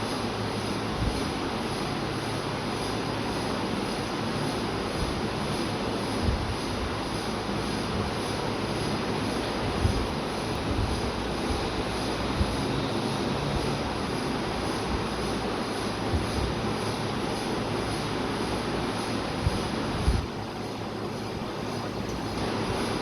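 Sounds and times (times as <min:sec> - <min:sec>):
machine-like droning: 0:00.0 - 0:23.0.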